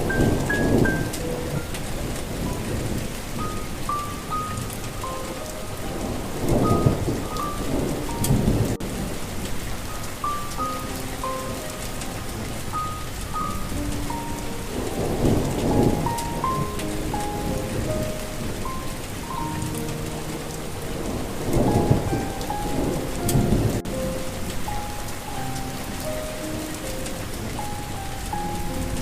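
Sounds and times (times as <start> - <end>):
soft slow melody: 0.0 - 29.0
steady rain falling: 0.0 - 29.0
thunder rumbling: 0.0 - 29.0.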